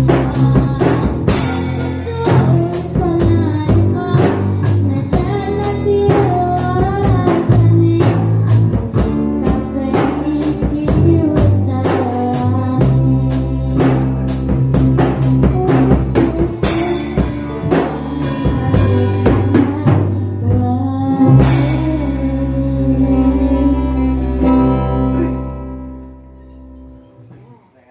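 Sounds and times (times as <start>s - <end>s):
drum kit beat: 0.0s - 23.0s
bass: 0.0s - 27.9s.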